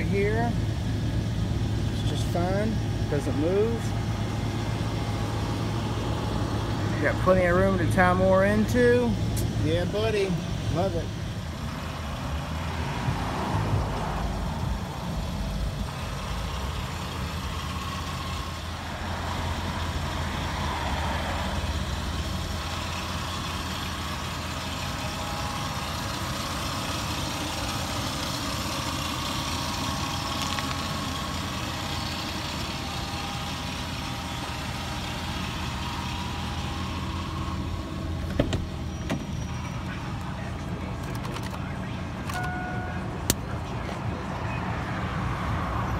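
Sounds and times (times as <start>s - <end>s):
truck engine idling: 0.0s - 44.8s.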